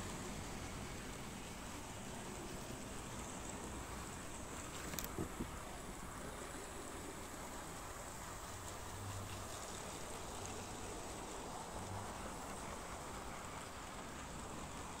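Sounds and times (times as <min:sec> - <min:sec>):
wheels whirring on rails: 0:00.0 - 0:15.0.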